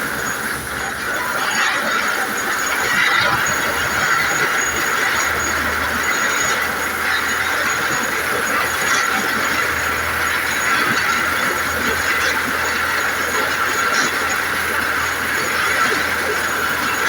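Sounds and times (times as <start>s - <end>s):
vehicles running: 0.0s - 17.0s.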